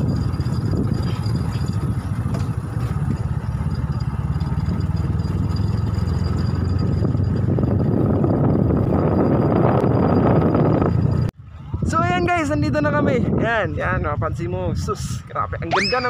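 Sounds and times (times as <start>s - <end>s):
motorcycle engine rumbling: 0.0s - 14.9s.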